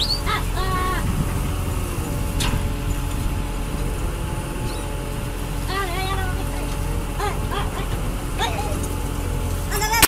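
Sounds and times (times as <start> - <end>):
boat engine rumbling: 0.0 - 10.0
gulls crying: 0.0 - 10.0.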